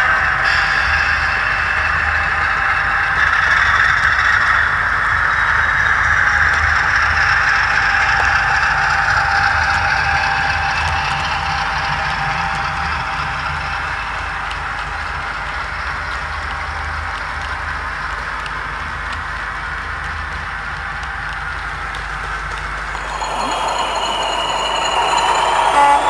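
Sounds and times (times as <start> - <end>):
model train rolling clatter: 0.0 - 26.0.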